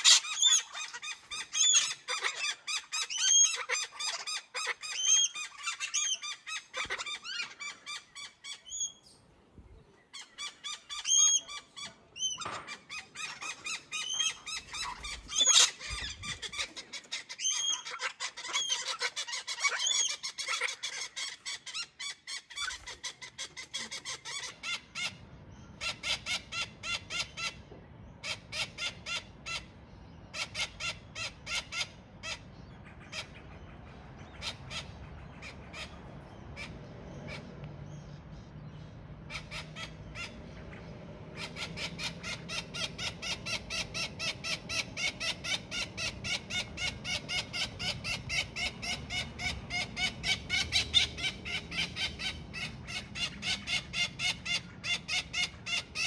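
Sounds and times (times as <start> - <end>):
parrots calling: 0.0 - 9.2, 10.0 - 56.0.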